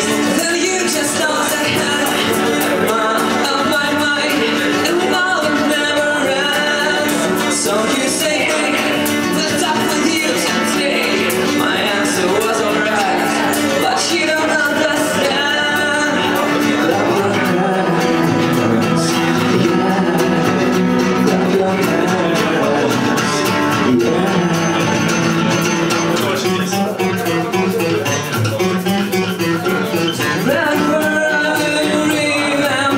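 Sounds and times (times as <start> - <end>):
band playing a song: 0.0 - 32.9
guitar: 0.0 - 32.9
person singing: 0.0 - 32.9.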